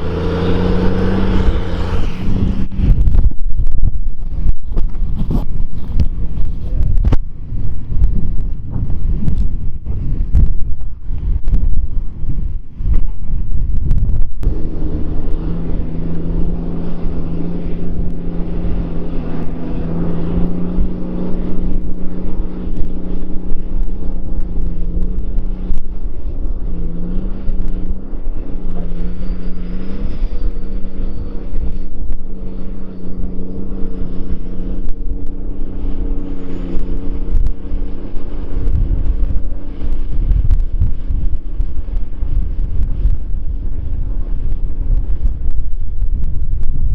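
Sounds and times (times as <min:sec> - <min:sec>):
tractor diesel engine running: 0:00.0 - 0:46.7
wind buffeting microphone: 0:00.0 - 0:46.9.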